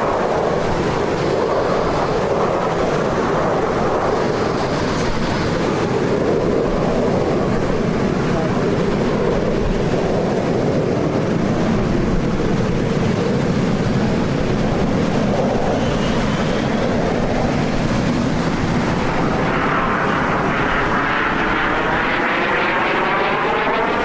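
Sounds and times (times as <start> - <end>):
jet aircraft roaring past: 0.0 - 24.0.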